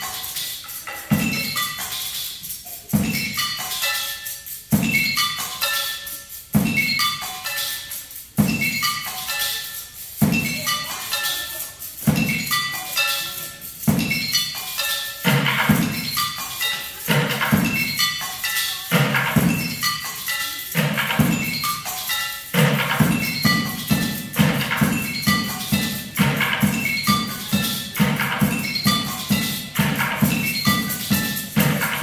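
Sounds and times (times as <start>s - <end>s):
pitched struck notes: 0.0s - 32.0s.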